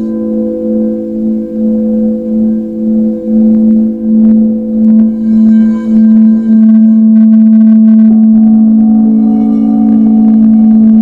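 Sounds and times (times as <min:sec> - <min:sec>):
crystal singing bowls ringing: 0:00.0 - 0:11.0.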